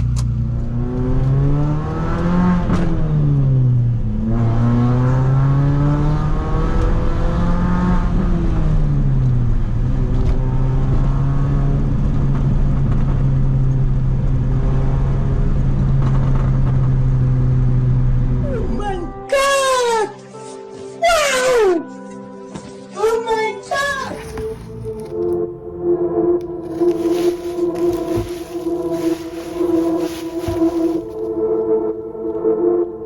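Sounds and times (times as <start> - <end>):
car engine revving and idling: 0.0 - 18.4, 24.3 - 32.8.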